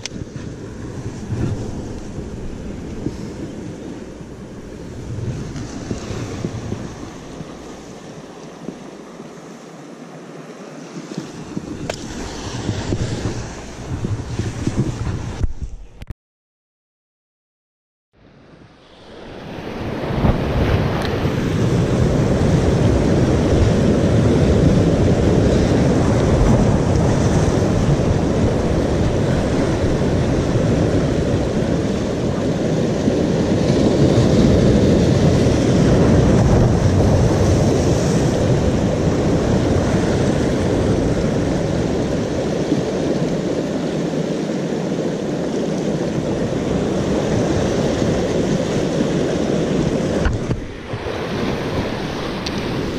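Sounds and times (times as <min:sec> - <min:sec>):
surf washing over rocks: 0:00.0 - 0:15.6, 0:18.8 - 0:52.9
wind buffeting microphone: 0:00.0 - 0:16.1, 0:19.0 - 0:52.9.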